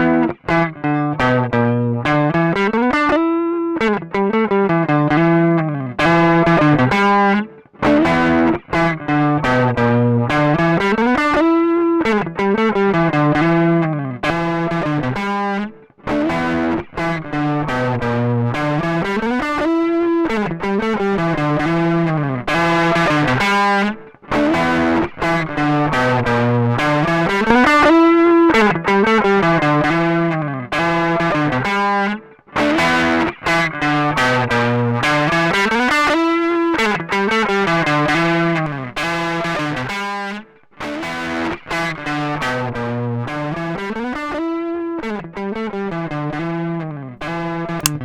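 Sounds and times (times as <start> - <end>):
overdriven electric guitar riff: 0.0 - 48.0.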